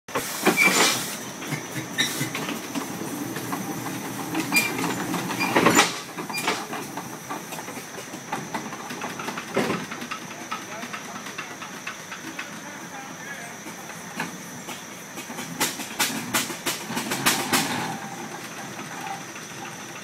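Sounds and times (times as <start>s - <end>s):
steam traction engine running: 0.1s - 20.0s.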